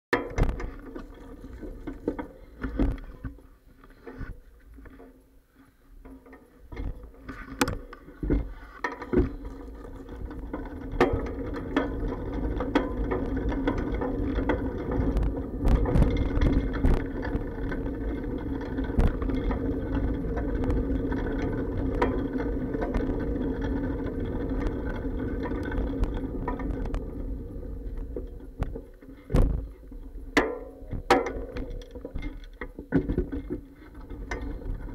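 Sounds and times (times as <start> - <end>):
bicycle clacks and bumps: 0.1 - 5.2, 6.0 - 34.9
muffled hum: 6.7 - 34.9.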